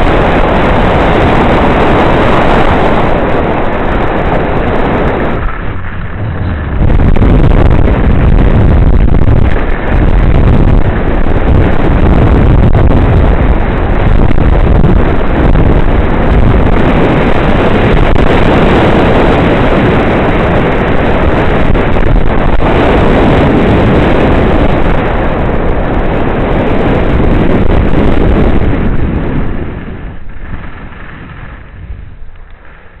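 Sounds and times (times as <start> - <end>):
wind rushing on microphone: 0.0 - 33.0.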